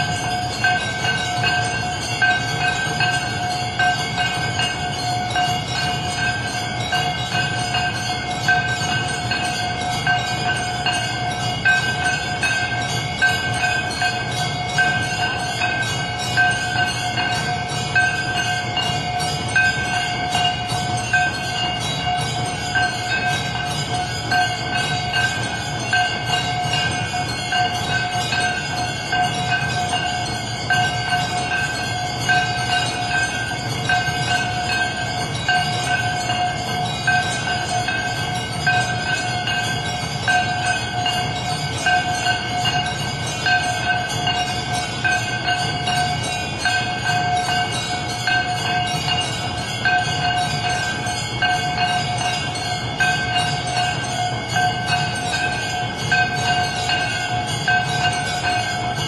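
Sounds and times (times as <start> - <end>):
temple bells ringing: 0.0 - 59.0.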